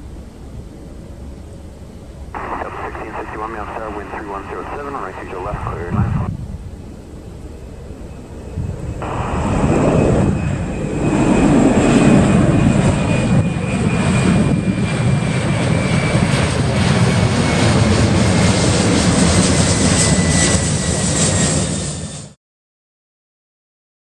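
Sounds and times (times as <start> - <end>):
jet engine roar with high whine: 0.0 - 22.4.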